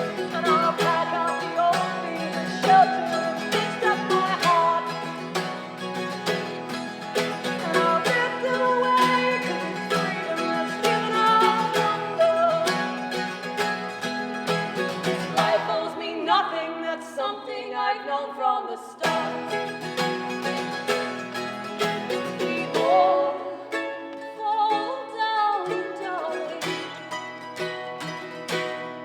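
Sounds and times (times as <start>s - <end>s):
strummed acoustic guitars: 0.0s - 16.9s, 19.0s - 29.0s
person singing melody: 0.0s - 17.8s, 19.0s - 21.2s, 21.8s - 27.1s.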